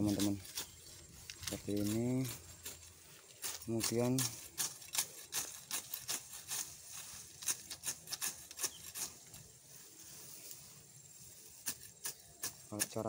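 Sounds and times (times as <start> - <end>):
sickle cutting grass: 0.0 - 13.0.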